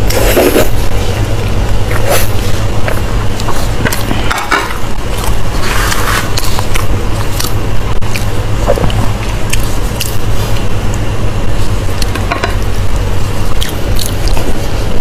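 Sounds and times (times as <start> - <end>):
close-miked chewing: 0.0 - 12.8, 13.4 - 14.8
low hum: 0.0 - 15.0.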